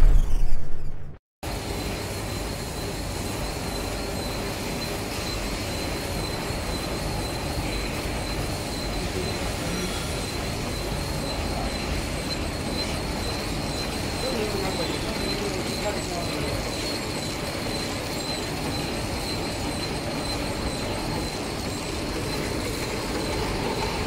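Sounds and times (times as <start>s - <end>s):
packaging machine din: 1.5s - 24.0s
thin high steady tone: 1.5s - 24.0s.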